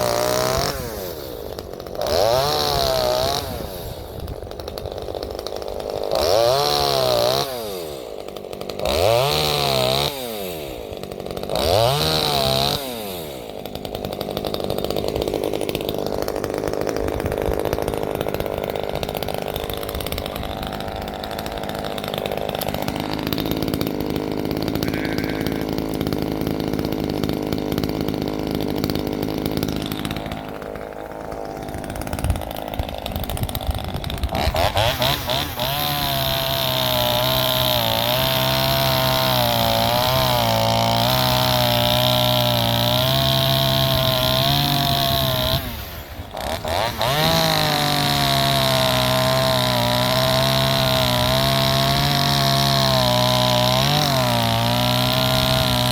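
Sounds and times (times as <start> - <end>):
chainsaw revving and running: 0.0 - 55.9.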